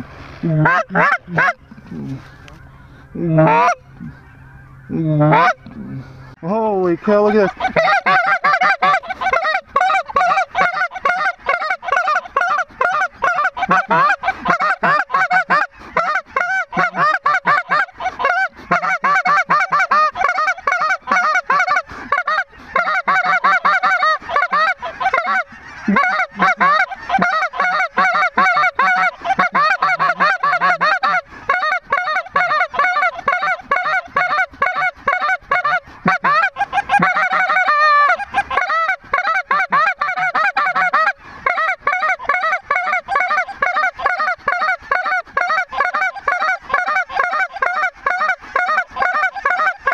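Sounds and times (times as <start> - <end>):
geese honking and clucking: 0.0 - 49.9.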